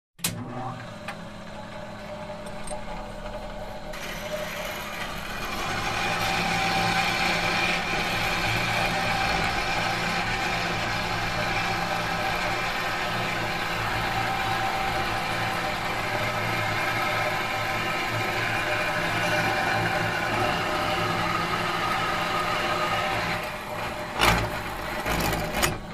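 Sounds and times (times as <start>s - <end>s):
metal machine humming: 0.2s - 25.9s.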